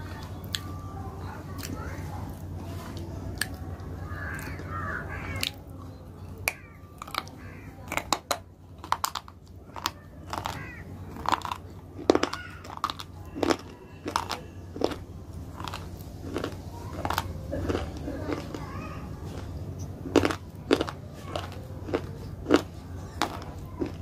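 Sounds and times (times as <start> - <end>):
crisp crunching and chewing: 0.0 - 24.0
steady low hum: 0.0 - 24.0.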